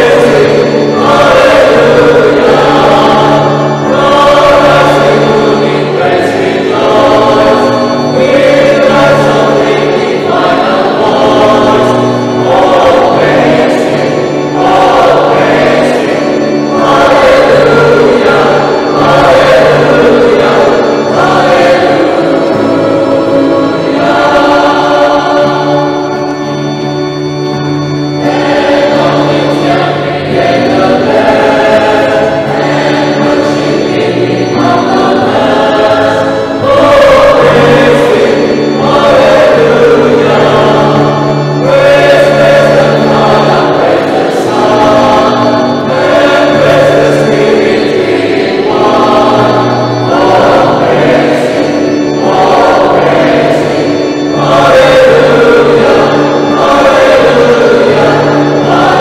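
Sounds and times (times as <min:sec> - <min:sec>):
acoustic guitar: 0:00.0 - 0:59.0
choir singing a hymn: 0:00.0 - 0:59.0
electronic keyboard: 0:00.0 - 0:59.0.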